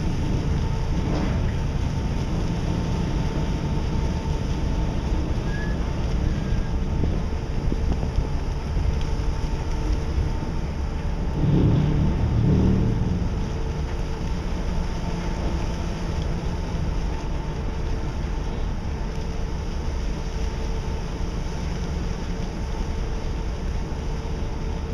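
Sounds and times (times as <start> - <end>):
faint constant hum: 0.0 - 24.9
ship engine low rumble: 0.0 - 24.9.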